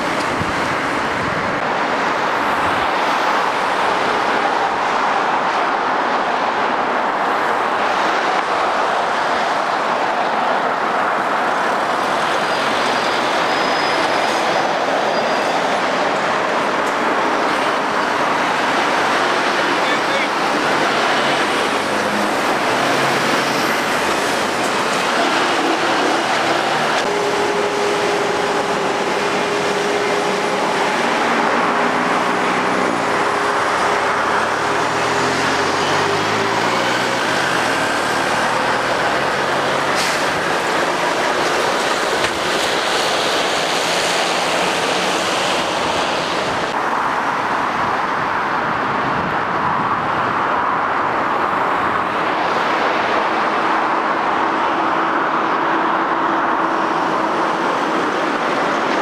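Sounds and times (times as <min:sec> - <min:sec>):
heavy road traffic passing: 0:00.0 - 0:59.0.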